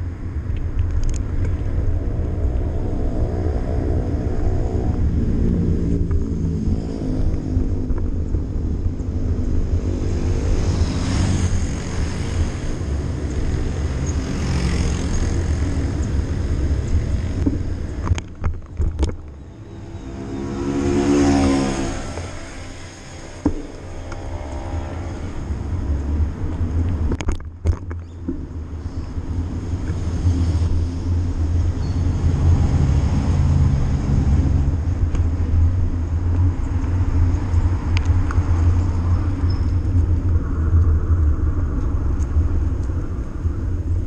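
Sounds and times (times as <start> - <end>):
passing vehicle engines: 0.0 - 44.0
wind rumbling on microphone: 0.0 - 44.0.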